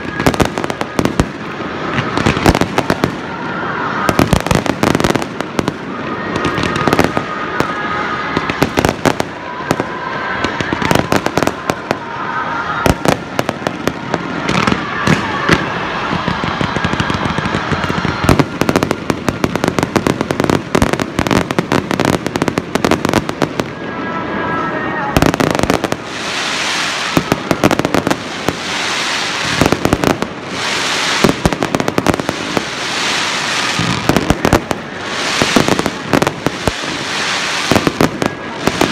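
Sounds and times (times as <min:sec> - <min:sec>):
fireworks bangs: 0:00.0 - 0:38.9
hissing crackle of fireworks: 0:00.0 - 0:38.9.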